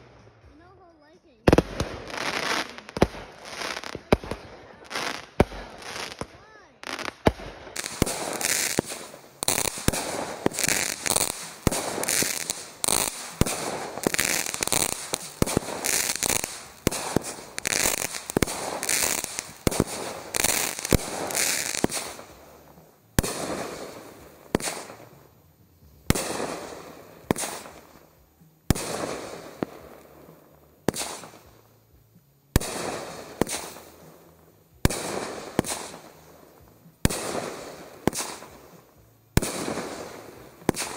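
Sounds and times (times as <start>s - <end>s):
fireworks bursting: 0.0s - 31.8s, 32.5s - 40.9s
fireworks crackling: 0.0s - 40.9s.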